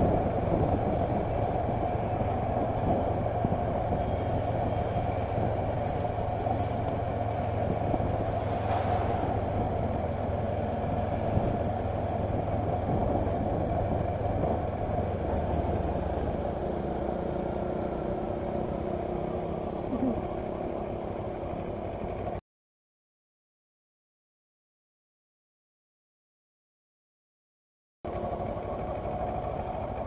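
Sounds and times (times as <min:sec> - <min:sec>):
motorcycle engine rumble: 0:00.0 - 0:22.4, 0:28.1 - 0:30.0.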